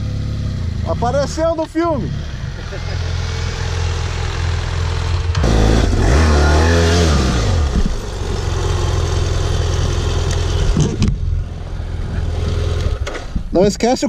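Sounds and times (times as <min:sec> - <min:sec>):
motorcycle engine revving: 0:00.0 - 0:13.5.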